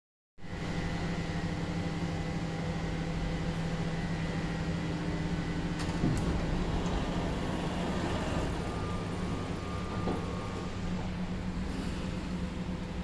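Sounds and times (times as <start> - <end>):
elevator machine hum: 0.6 - 13.0.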